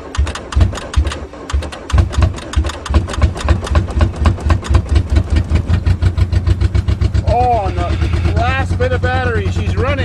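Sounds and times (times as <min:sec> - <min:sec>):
car engine starting and running: 0:00.0 - 0:10.0.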